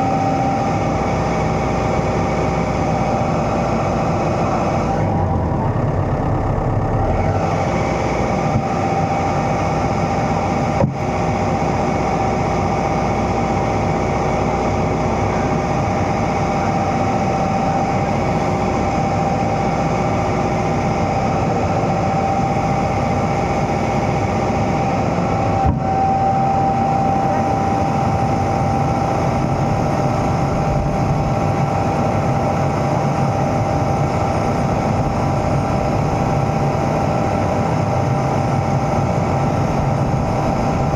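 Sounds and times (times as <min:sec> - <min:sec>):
excavator diesel engine: 0:00.0 - 0:40.9
high whine: 0:00.0 - 0:40.9.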